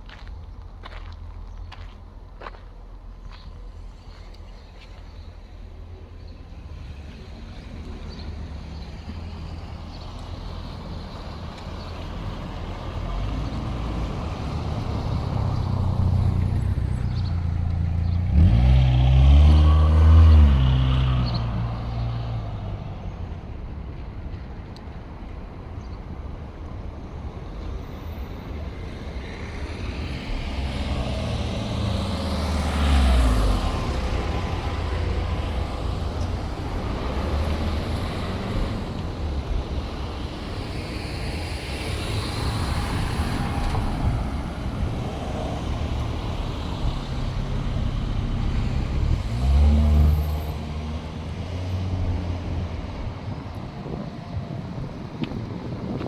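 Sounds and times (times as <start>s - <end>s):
vehicles driving past: 0.0s - 56.0s.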